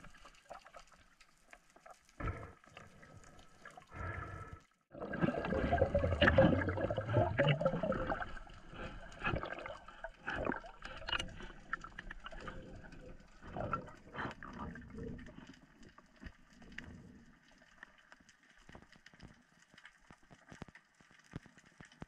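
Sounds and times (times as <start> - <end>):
underwater gurgling water: 0.0 - 22.0.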